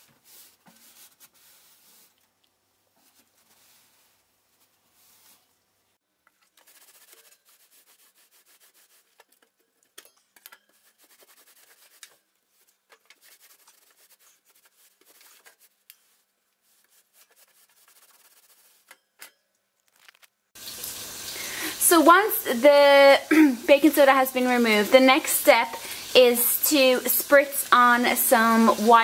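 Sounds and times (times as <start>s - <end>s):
towel scrubbing oven: 0.0s - 5.7s, 6.4s - 9.8s, 10.4s - 19.0s, 20.8s - 29.0s.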